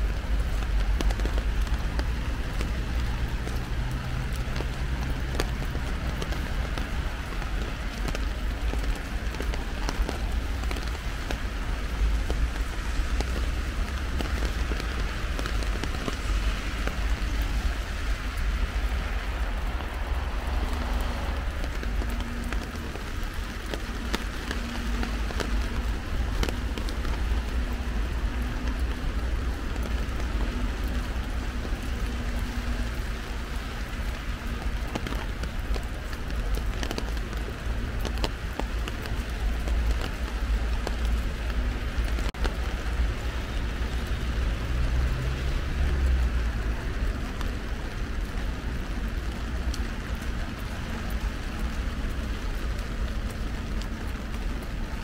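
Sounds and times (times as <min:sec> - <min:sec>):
heavy rain on an umbrella: 0:00.0 - 0:55.0.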